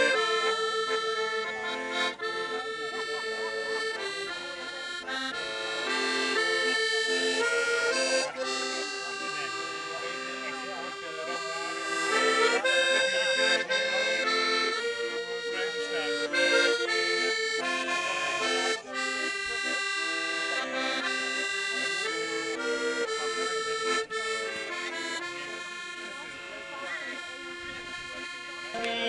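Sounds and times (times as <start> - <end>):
accordion melody: 0.0 - 29.0.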